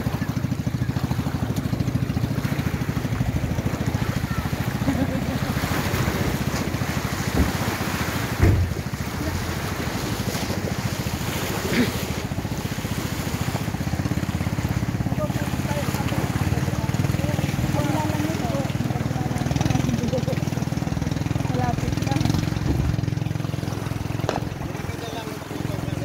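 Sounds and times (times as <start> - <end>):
boat engine chugging: 0.0 - 26.0
small waves washing on rocks: 0.0 - 26.0.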